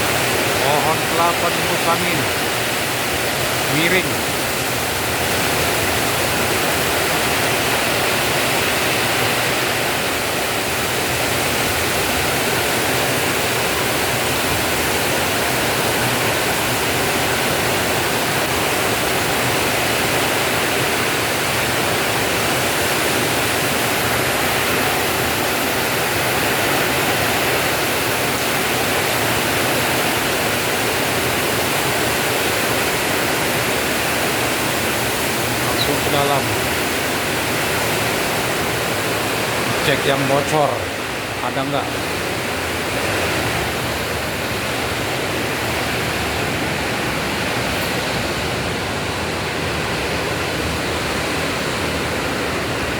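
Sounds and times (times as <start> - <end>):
heavy rain: 0.0 - 52.9
strong wind: 0.0 - 52.9.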